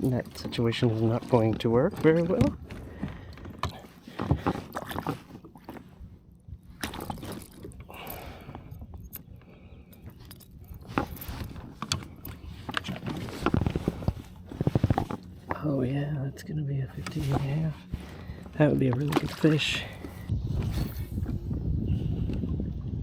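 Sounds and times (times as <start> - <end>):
gear being handled in kayak: 0.0 - 15.9, 16.9 - 21.6.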